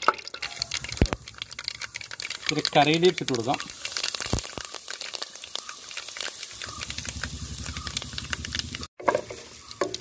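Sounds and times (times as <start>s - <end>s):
seeds sizzling in hot oil: 0.0s - 10.0s.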